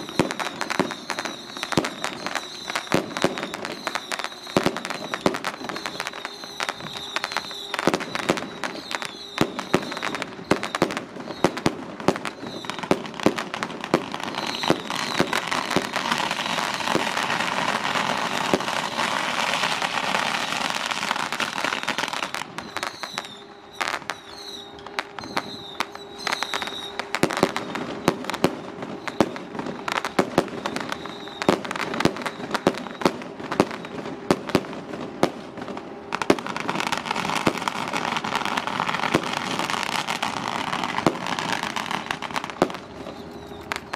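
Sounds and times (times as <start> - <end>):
firecrackers popping: 0.0 - 43.9.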